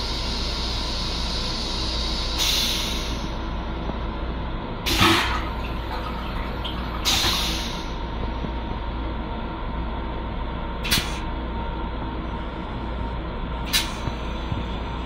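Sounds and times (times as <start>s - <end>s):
railcar running rumble: 0.0s - 15.0s.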